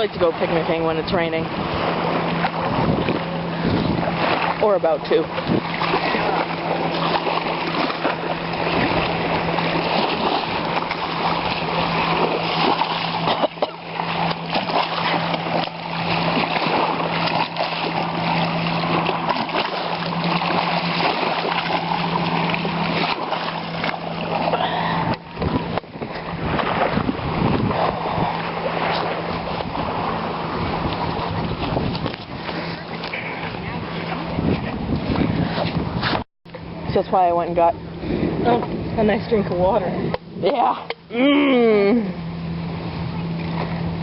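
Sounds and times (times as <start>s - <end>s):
wind buffeting microphone: 0.0s - 40.9s
steady low hum: 0.0s - 44.0s
waves splashing: 0.0s - 44.0s.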